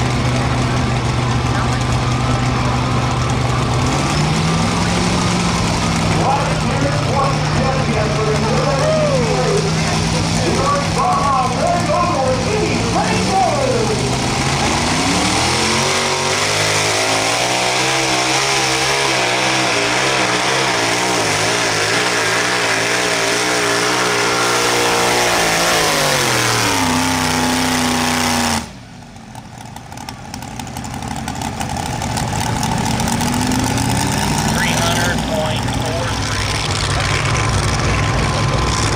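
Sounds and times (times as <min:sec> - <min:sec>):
tractor engine revving: 0:00.0 - 0:38.9.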